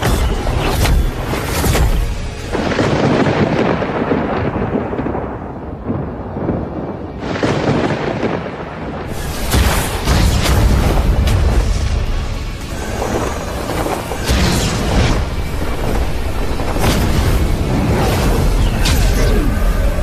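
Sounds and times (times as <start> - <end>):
dramatic film score: 0.0 - 20.0
deep rolling thunder: 2.5 - 18.6.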